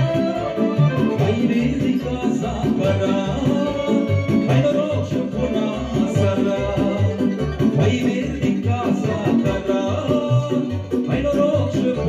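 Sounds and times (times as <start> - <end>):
lively band music: 0.0 - 12.0.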